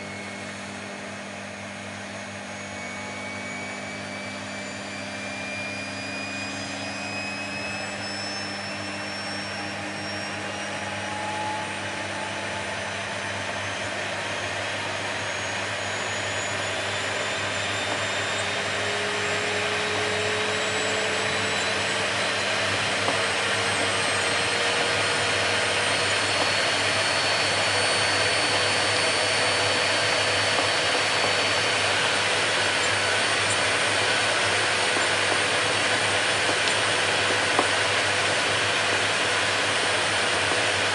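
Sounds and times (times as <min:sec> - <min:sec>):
vacuum cleaner motor running: 0:00.0 - 0:40.9.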